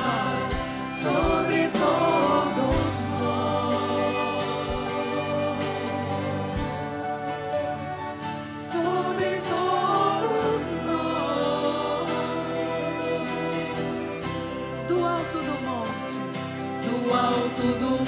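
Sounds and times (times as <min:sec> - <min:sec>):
voices singing: 0:00.0 - 0:15.4, 0:16.4 - 0:18.0
band playing worship song: 0:00.0 - 0:18.0.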